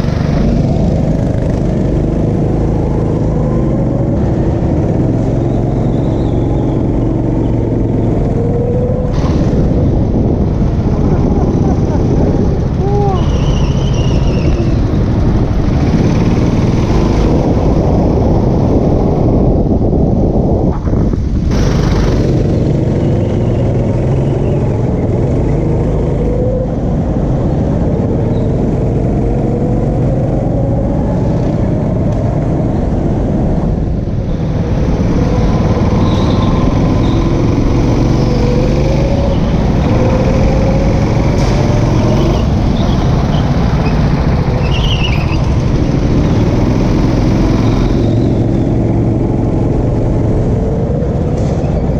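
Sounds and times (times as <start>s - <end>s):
go-kart engine rumble: 0.0s - 51.9s.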